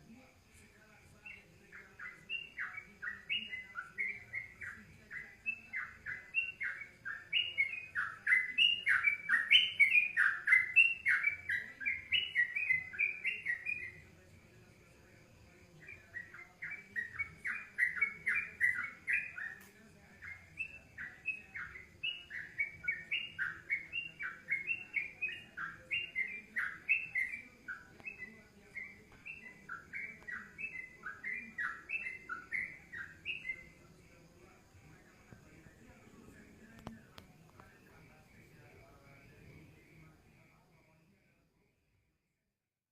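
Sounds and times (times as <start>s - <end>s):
songbird singing: 0.0s - 41.7s.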